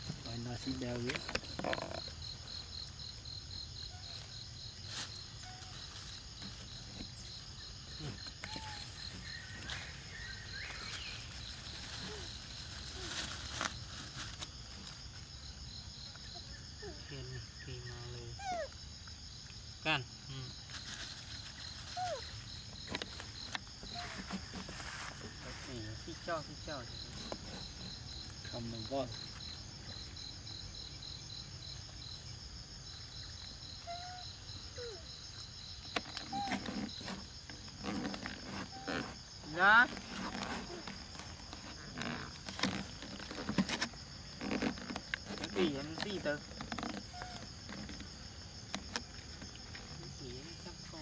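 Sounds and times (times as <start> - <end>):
crackly rustling: 0.0 - 17.0, 20.5 - 30.6, 32.8 - 51.0
insects chirping rhythmically: 0.0 - 51.0.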